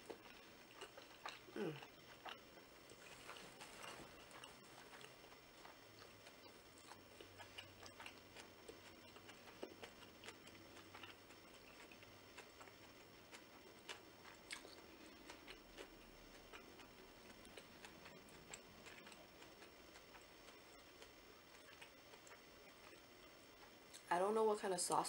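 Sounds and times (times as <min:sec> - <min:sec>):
chewing spring roll: 0:00.0 - 0:24.1.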